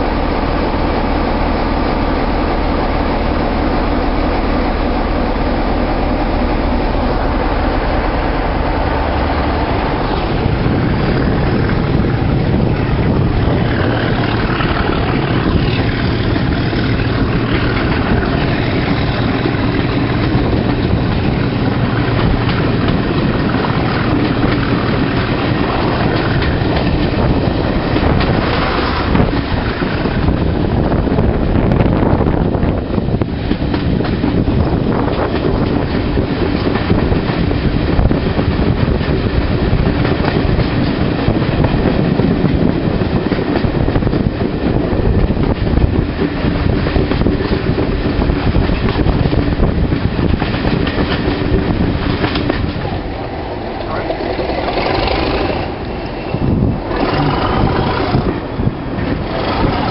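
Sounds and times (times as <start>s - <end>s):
diesel locomotive engine hum: 0.0s - 59.9s.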